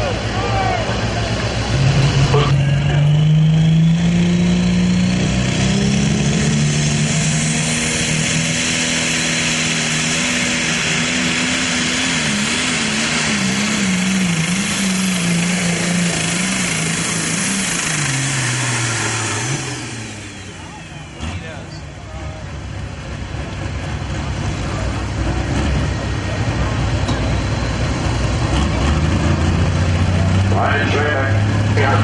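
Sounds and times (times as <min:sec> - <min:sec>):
pulling tractor engine at full power: 0:00.0 - 0:32.0.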